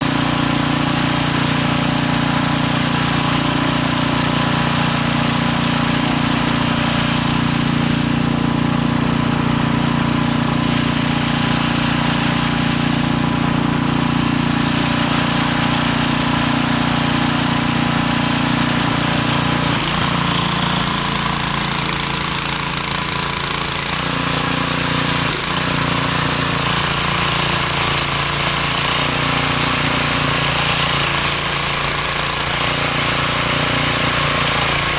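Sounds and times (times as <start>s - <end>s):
snowblower engine running: 0.0s - 34.9s.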